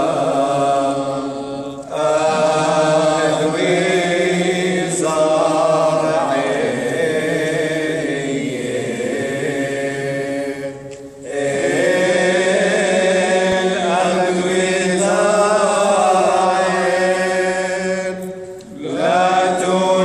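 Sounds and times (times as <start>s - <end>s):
men chanting a hymn: 0.0s - 20.0s.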